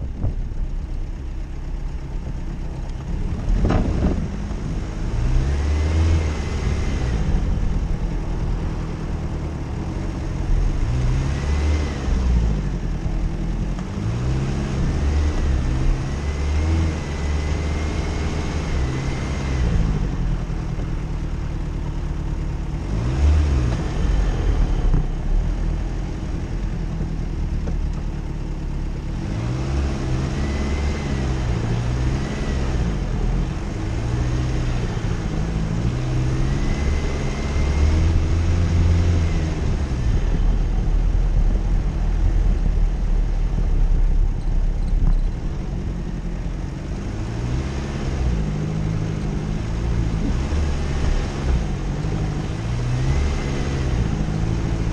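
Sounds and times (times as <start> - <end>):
engine revving with whine: 3.0 - 22.0, 22.6 - 28.2, 28.9 - 54.9.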